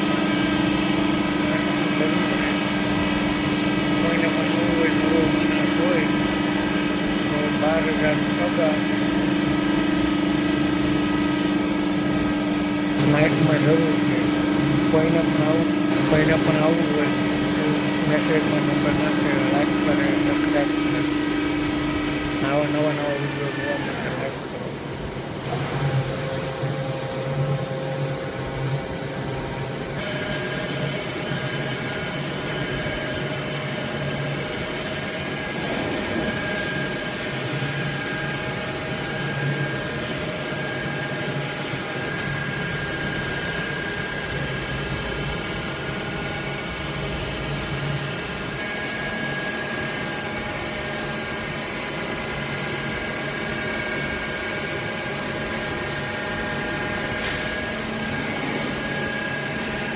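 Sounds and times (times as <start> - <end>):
machine low hum: 0.0 - 59.9.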